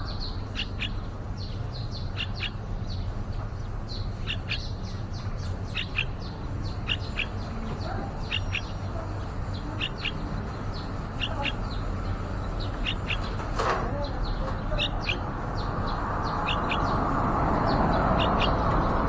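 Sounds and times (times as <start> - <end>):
bulbuls chirping: 0.0 - 19.0.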